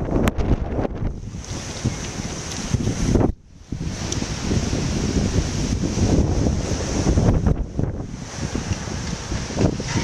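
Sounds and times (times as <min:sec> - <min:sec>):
storm wind gusting on microphone: 0:00.0 - 0:10.0.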